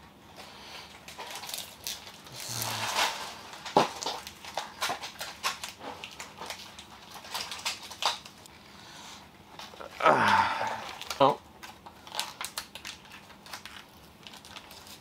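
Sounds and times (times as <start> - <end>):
plastic toys and packaging handled: 0.2 - 8.6, 9.4 - 15.0.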